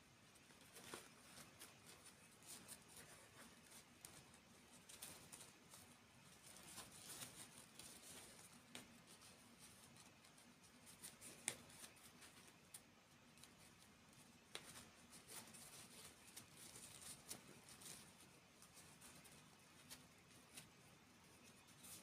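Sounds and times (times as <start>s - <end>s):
quiet hiss: 0.0s - 22.0s.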